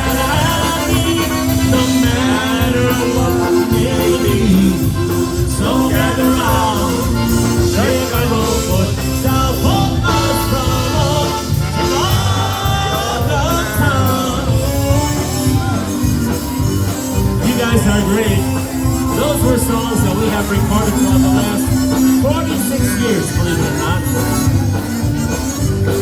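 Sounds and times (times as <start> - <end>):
polka band playing: 0.0 - 26.0.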